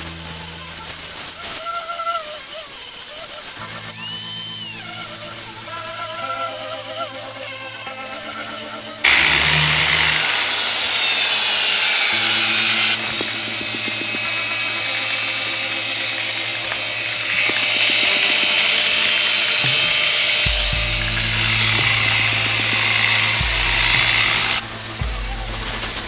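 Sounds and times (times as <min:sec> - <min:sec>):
angle grinder sanding concrete: 0:00.0 - 0:26.0.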